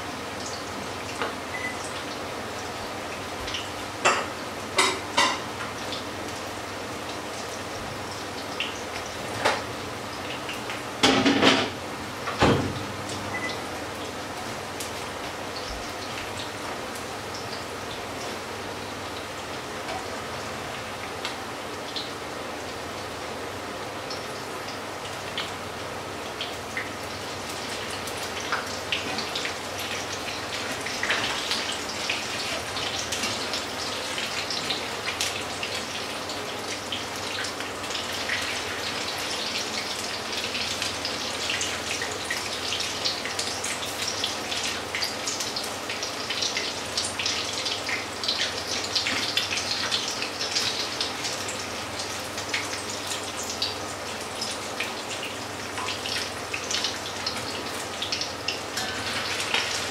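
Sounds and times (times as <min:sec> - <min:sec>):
frying oil sizzling and crackling: 0:00.0 - 0:59.9.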